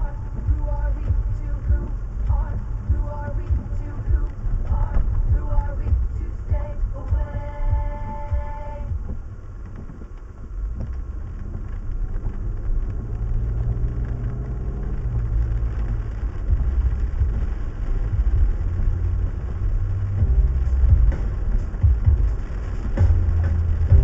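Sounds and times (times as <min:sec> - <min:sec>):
car engine pulling away: 0:00.0 - 0:24.0
road noise: 0:00.0 - 0:24.0.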